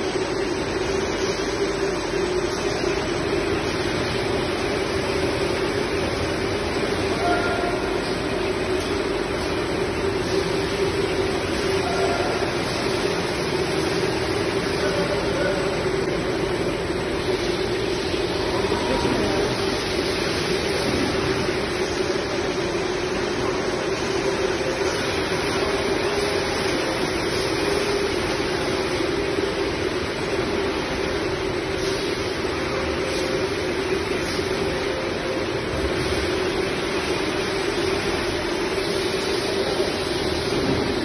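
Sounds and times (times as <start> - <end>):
factory machinery droning: 0.0 - 41.0.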